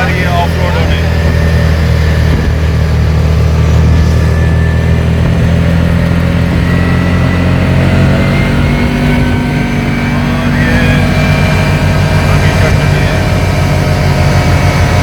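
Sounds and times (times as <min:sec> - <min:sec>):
dune buggy engine running: 0:00.0 - 0:15.0.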